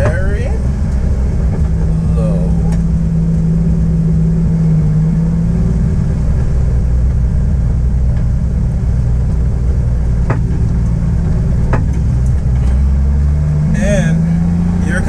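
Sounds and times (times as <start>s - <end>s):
car engine low drone: 0.0s - 15.0s.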